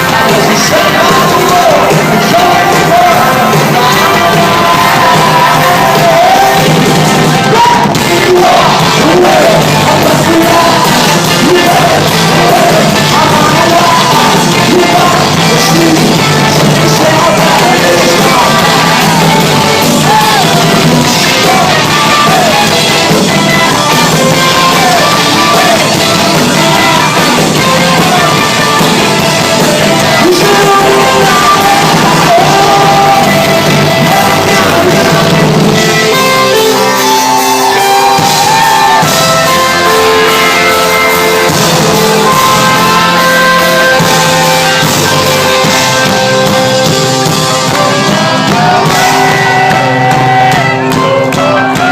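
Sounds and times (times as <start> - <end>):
drums: 0.0 - 51.9
guitars: 0.0 - 51.9
person singing: 0.0 - 51.9.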